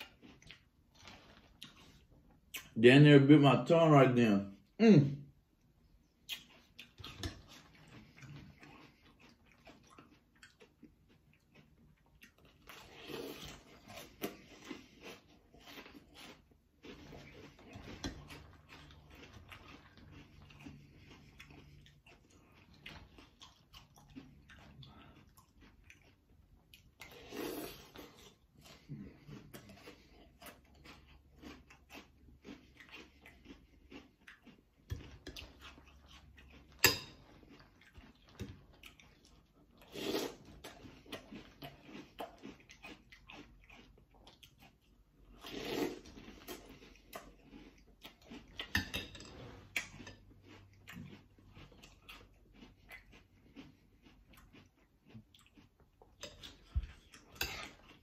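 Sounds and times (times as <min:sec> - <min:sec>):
chewing and crunching cereal: 0:00.0 - 0:04.8, 0:05.5 - 0:58.0.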